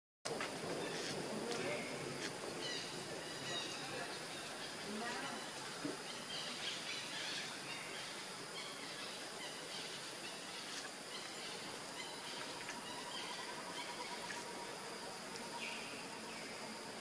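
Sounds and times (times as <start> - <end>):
forest ambience hiss: 0.3 - 17.0
faint bird calls: 0.8 - 16.6.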